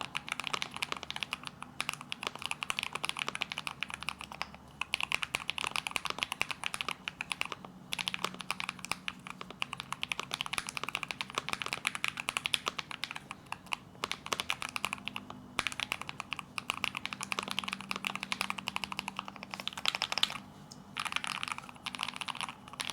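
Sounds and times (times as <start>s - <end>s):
mechanical keyboard typing: 0.0s - 20.4s, 21.0s - 22.9s.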